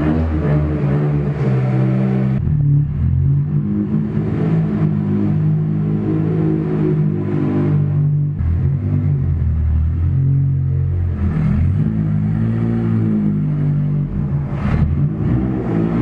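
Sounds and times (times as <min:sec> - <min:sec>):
car engine running hard: 0:00.0 - 0:16.0.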